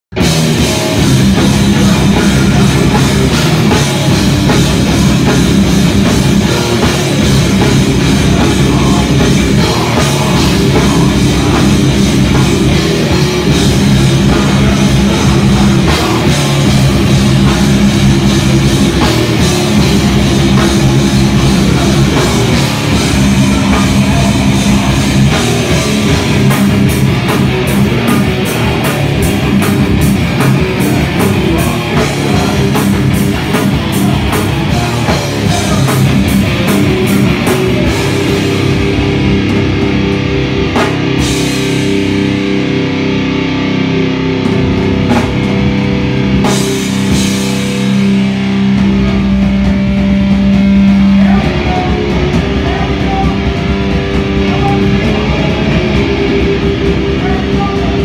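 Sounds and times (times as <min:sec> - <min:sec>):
live hardcore band playing: 0:00.1 - 0:58.0.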